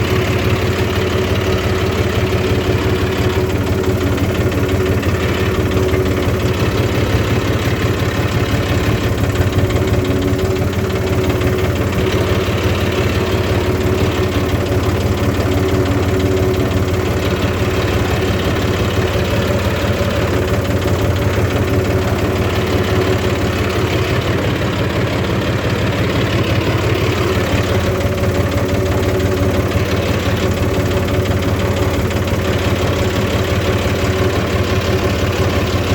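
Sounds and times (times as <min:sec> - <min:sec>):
farm machine engine idling: 0:00.0 - 0:35.9.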